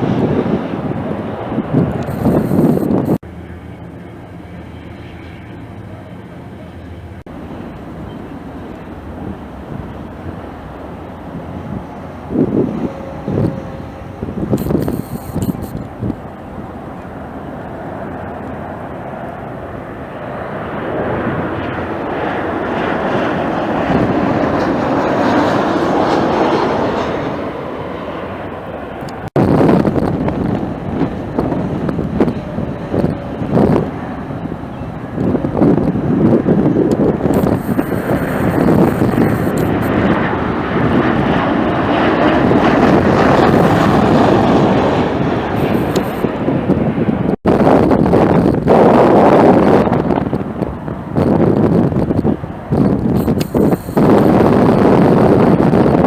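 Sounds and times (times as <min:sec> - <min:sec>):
jet airliner passing: 0:00.0 - 0:56.0
wind buffeting microphone: 0:00.0 - 0:56.0.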